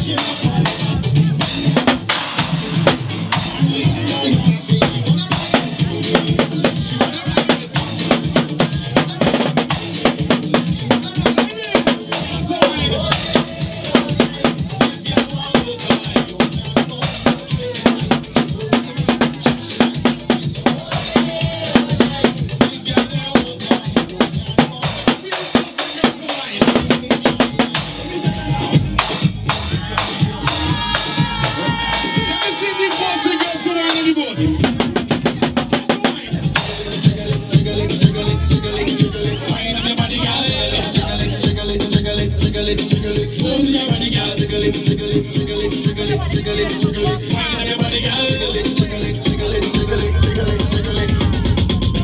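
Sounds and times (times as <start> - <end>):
backing music: 0.0 - 52.0
drum kit playing fast rhythm: 0.0 - 52.0.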